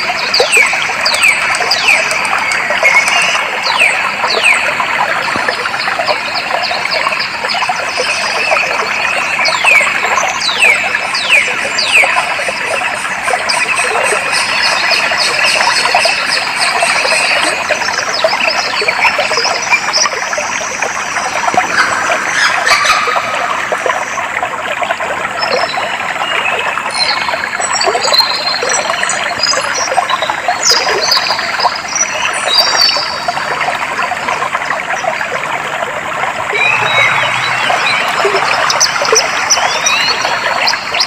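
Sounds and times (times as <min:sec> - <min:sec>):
stream water trickling: 0:00.0 - 0:41.0.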